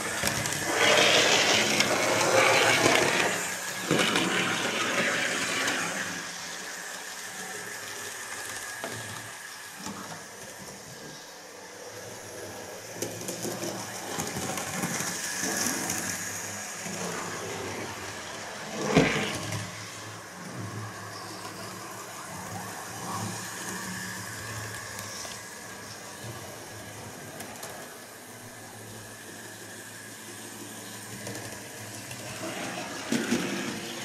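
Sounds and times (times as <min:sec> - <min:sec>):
model train motor humming: 0:00.0 - 0:34.0.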